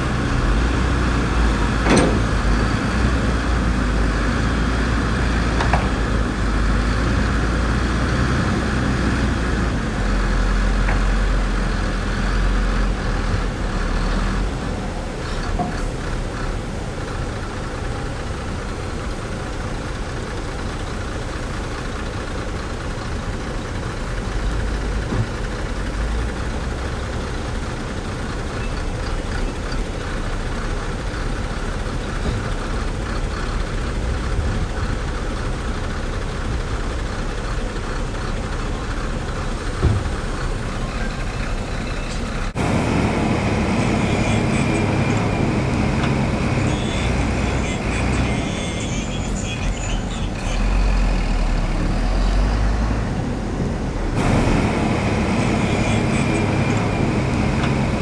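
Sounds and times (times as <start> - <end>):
earthmoving machinery diesel engines: 0.0 - 58.0.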